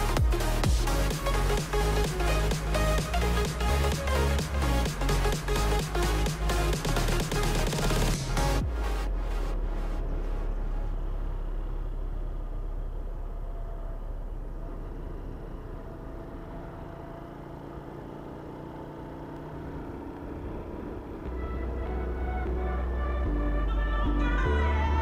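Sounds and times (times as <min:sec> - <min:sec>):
wind: 0:00.0 - 0:24.8
motorcycle engine running: 0:00.0 - 0:25.0
road noise: 0:00.0 - 0:25.0.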